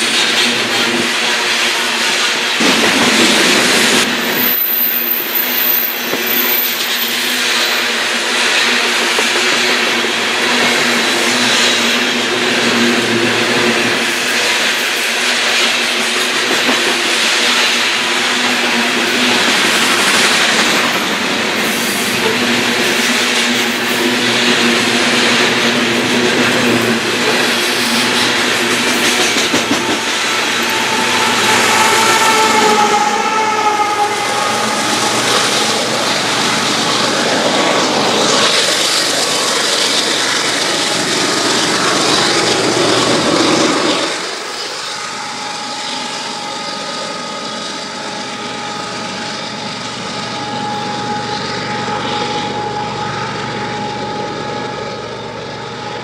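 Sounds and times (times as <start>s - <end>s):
train cars rolling on rails: 0.0s - 56.0s.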